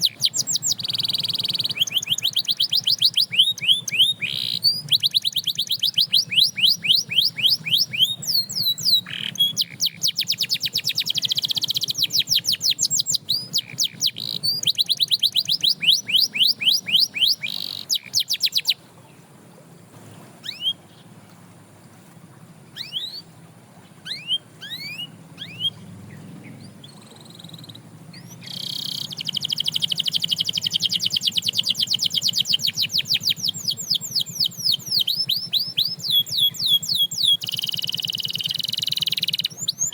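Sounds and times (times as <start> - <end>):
canary chirps: 0.0 - 19.2, 20.4 - 21.2, 22.3 - 23.4, 24.0 - 39.9
canary singing trills: 0.0 - 21.3, 22.3 - 39.9.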